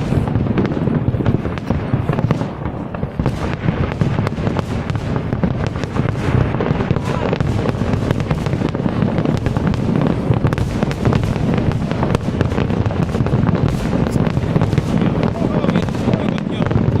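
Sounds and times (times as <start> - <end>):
fireworks cracking: 0.0 - 17.0.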